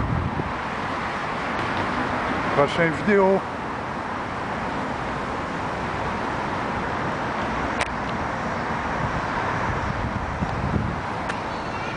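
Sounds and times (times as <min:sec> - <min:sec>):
city street traffic: 0:00.0 - 0:11.9.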